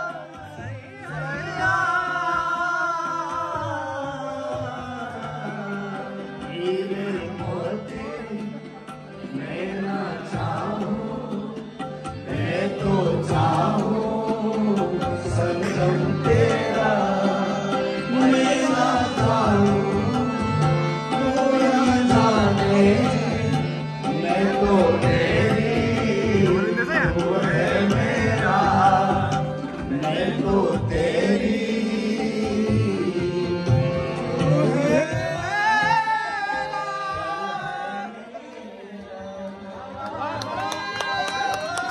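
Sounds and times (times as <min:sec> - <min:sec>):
man singing into a microphone: 0:00.0 - 0:41.2
harmonium chords: 0:00.0 - 0:41.5.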